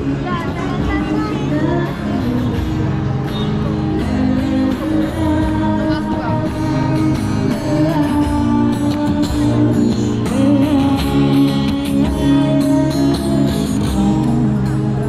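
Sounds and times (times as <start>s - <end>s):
music with singing: 0.0s - 15.0s
steady bass line: 0.0s - 15.0s.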